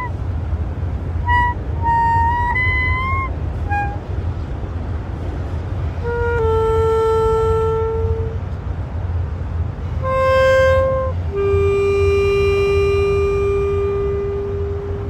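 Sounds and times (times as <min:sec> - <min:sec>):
solo woodwind improvising: 0:00.0 - 0:04.4, 0:05.8 - 0:08.6, 0:09.8 - 0:15.0.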